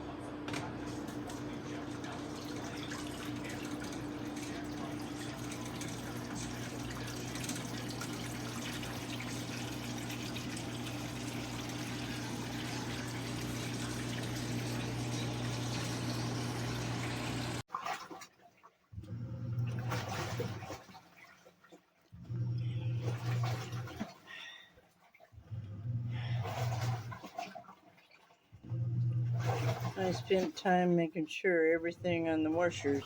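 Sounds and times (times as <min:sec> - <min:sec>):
water splashing in washing machine: 0:00.0 - 0:33.0.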